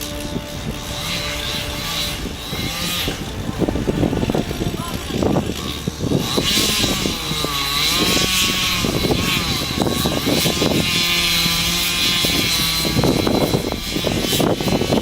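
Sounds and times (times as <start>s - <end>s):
engine running: 0.0s - 15.0s
high whine: 0.0s - 15.0s.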